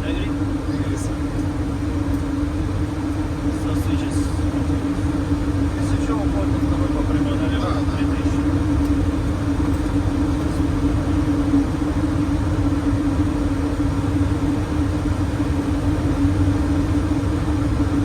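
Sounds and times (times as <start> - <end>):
mid-pitched hum: 0.0 - 18.0.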